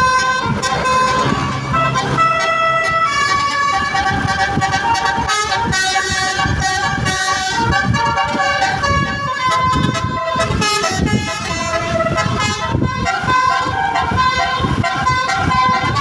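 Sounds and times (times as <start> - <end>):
multi-tone bus horn playing tune: 0.0 - 16.0.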